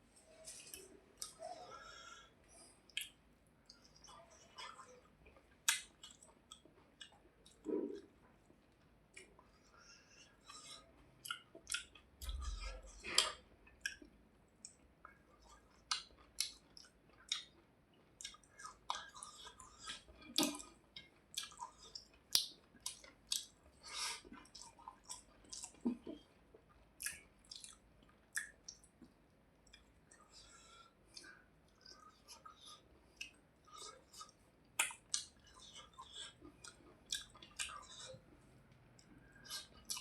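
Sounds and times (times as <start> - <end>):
wet chewing and lip smacking: 0.4 - 40.0.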